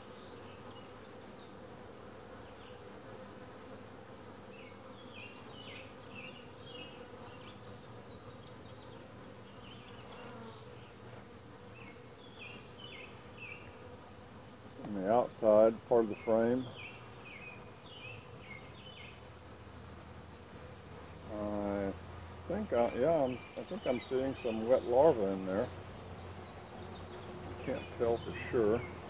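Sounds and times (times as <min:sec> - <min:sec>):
honey bees humming: 0:00.0 - 0:29.0.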